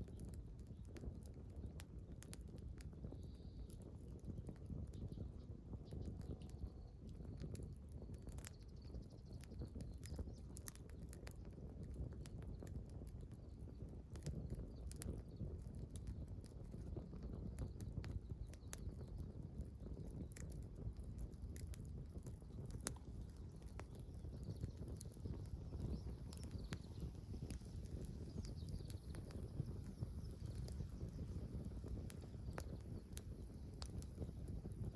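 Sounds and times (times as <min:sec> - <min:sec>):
campfire crackling: 0:00.0 - 0:34.9
low rumble of fire: 0:00.0 - 0:34.9.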